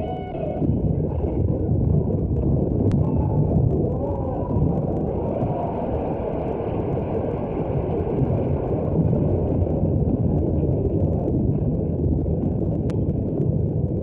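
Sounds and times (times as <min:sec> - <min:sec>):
muffled low rumbling: 0:00.0 - 0:14.0.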